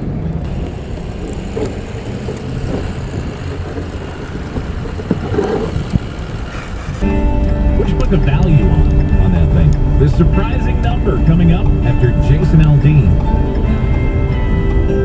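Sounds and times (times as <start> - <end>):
vehicle cabin rumble: 0.0 - 15.0.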